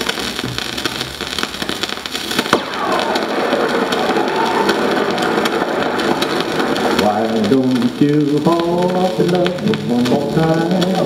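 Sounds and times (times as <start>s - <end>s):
record surface crackle: 0.0s - 11.0s.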